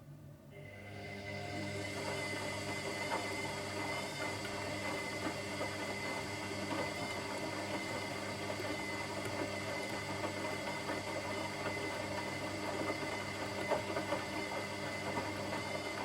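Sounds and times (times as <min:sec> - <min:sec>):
washing machine running: 0:00.5 - 0:16.0.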